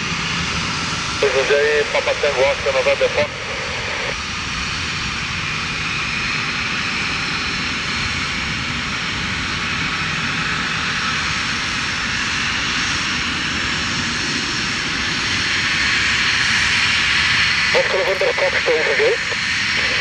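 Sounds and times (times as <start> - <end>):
jet engine whine: 0.0 - 20.0.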